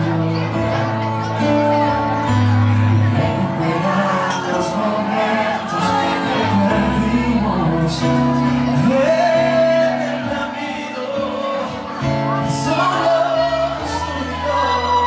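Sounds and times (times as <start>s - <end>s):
keyboard chords: 0.0s - 15.0s
man singing into a microphone: 0.0s - 15.0s.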